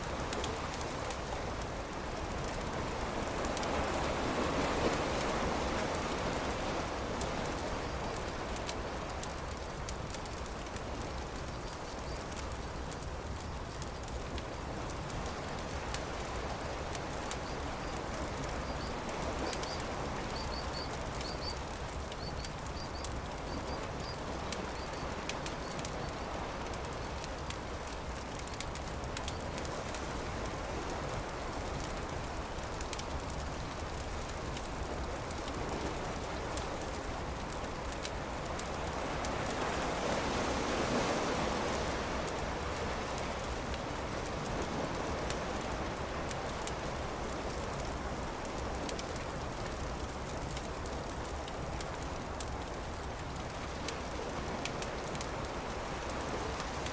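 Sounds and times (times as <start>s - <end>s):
surf washing: 0.0s - 11.6s, 12.4s - 56.9s
campfire crackling: 0.0s - 56.9s.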